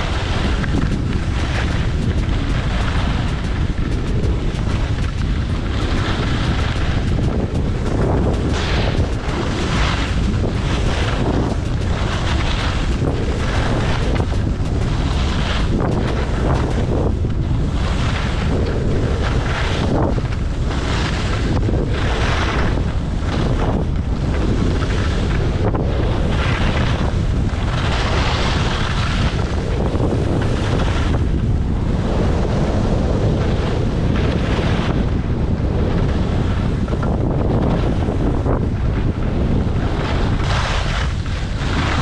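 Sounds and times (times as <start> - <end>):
ski edges scraping snow: 0.0 - 31.3, 39.6 - 42.0
wind rumble on microphone: 0.0 - 42.0.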